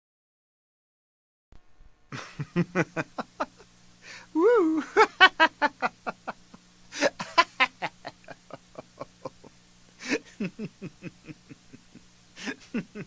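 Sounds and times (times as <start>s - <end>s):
person laughing: 2.1s - 13.0s.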